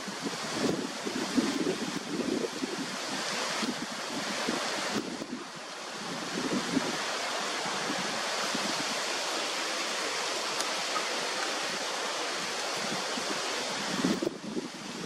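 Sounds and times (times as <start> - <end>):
wind buffeting microphone: 0.0 - 9.9, 10.7 - 15.0
steady wind hiss: 0.0 - 15.0.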